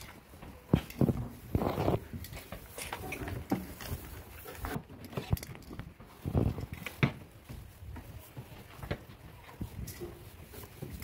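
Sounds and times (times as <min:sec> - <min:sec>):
sheep hooves clattering: 0:00.0 - 0:11.0.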